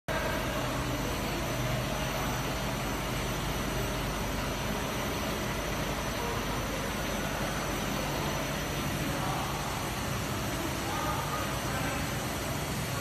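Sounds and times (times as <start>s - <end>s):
faint steady whines: 0.1s - 13.0s
machinery hum and hiss: 0.1s - 13.0s.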